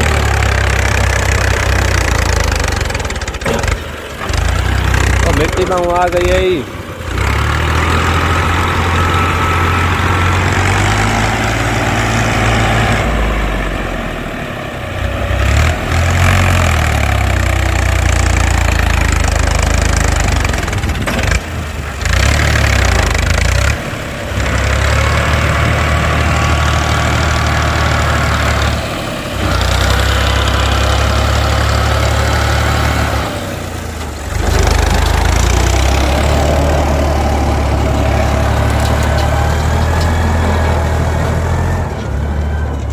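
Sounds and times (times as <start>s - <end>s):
tractor engine under load: 0.0s - 42.9s.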